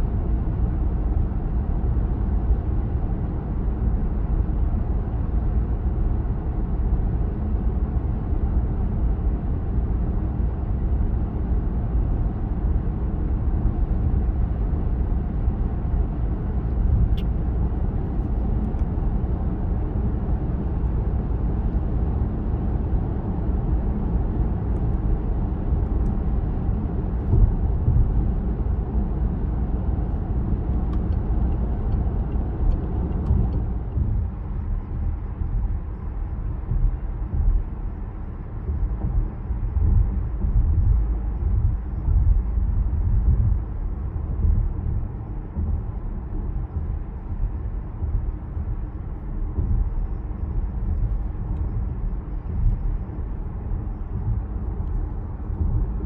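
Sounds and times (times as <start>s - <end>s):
road and wind noise in car: 0.0s - 56.0s.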